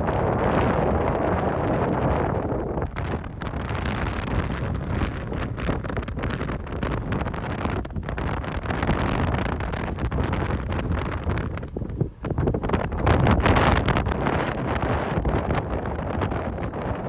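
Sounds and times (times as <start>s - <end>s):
low steady rumble: 0.0s - 17.0s
strong wind buffeting microphone: 0.0s - 17.0s.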